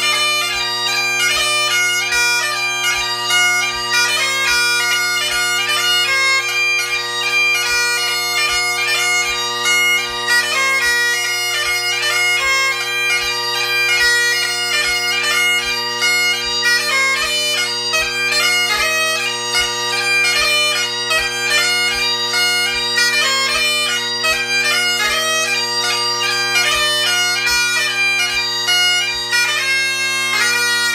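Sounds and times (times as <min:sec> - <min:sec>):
bagpipe playing a reel: 0:00.0 - 0:30.9.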